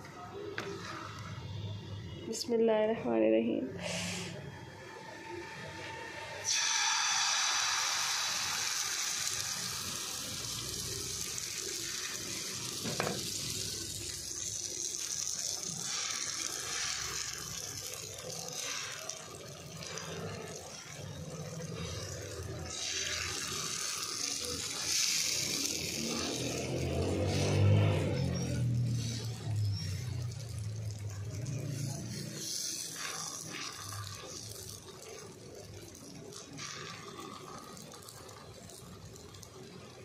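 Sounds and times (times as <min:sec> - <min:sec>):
batter sizzling on griddle: 0:05.0 - 0:40.0.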